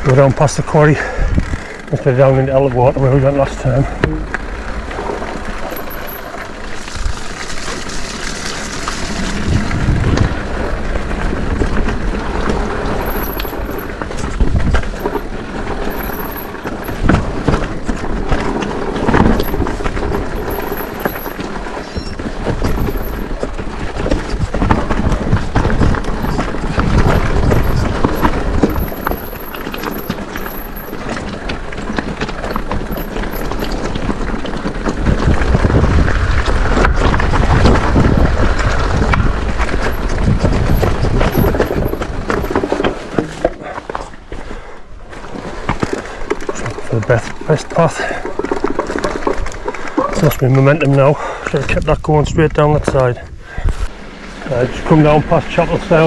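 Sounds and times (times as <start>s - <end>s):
bike knocking and rattling: 0.0s - 56.0s
tyre rumble on stony track: 0.0s - 56.0s.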